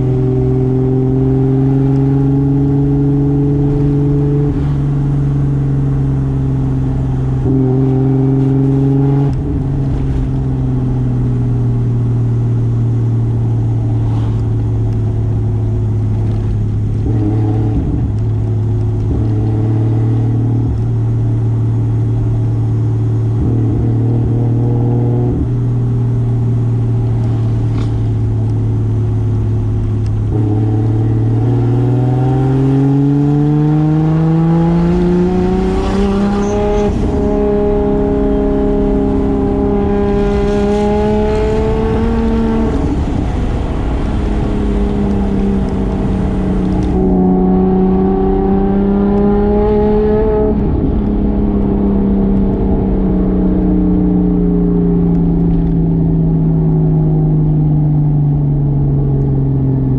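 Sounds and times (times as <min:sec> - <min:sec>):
car engine running: 0:01.2 - 0:59.8.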